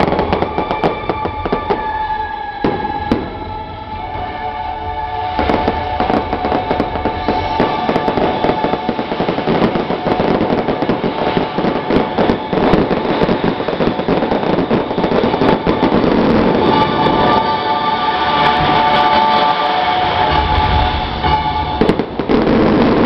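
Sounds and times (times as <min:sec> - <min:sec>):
fireworks crackling: 0:00.0 - 0:23.0
music soundtrack: 0:00.0 - 0:23.0.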